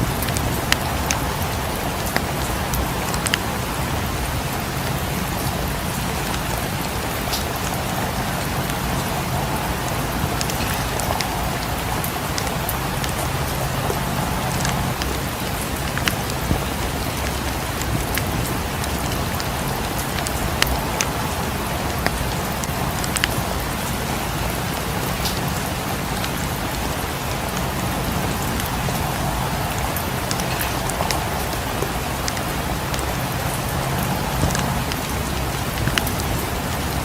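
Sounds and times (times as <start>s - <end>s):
steady rain falling: 0.0s - 37.0s
wood fire crackling and popping: 0.0s - 37.0s.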